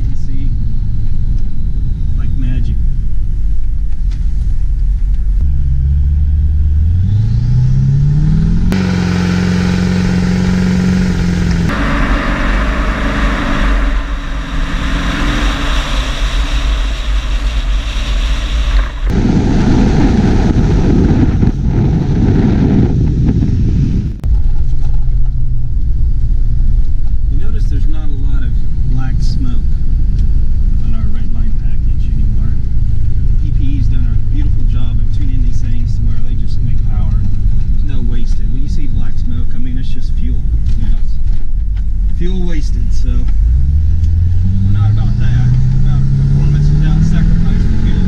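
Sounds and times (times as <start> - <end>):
diesel engine accelerating: 0.0 - 48.0
rough vehicle noise: 0.0 - 48.0.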